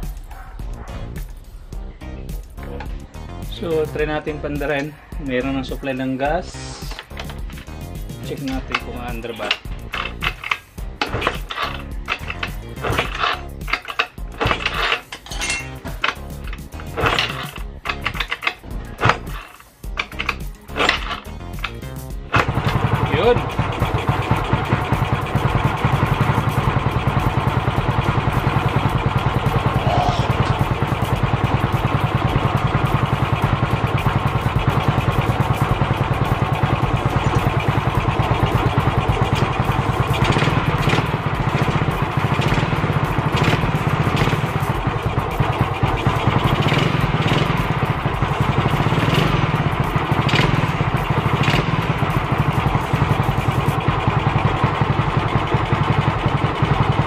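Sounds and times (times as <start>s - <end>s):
scooter engine idling: 0.0s - 57.0s.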